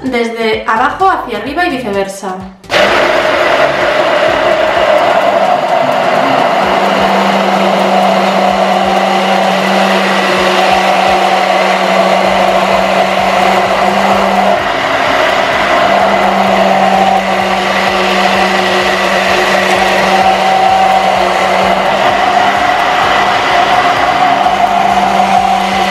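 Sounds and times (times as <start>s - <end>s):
immersion blender humming: 2.7s - 25.9s.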